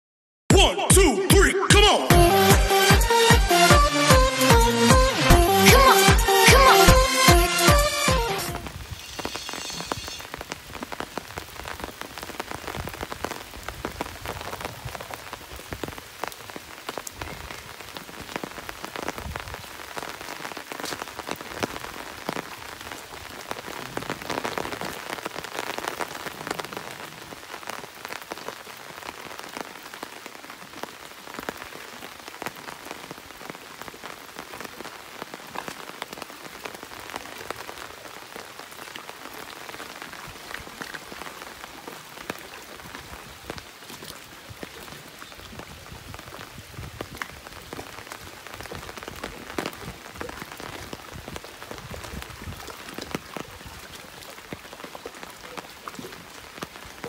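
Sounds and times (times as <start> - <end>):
steady rain falling: 2.1 - 57.0.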